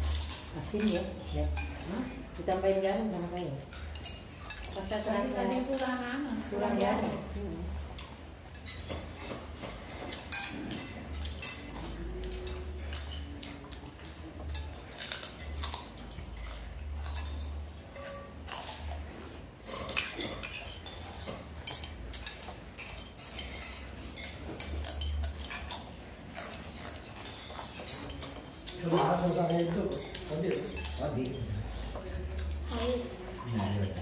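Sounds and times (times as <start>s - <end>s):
spoons clinking on plates: 0.0s - 34.0s.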